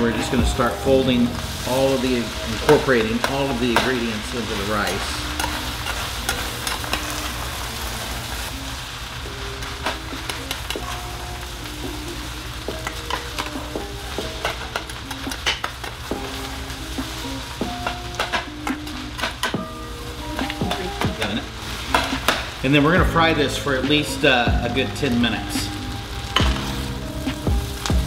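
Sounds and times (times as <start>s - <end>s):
fried rice sizzling in pan: 0.0s - 28.0s.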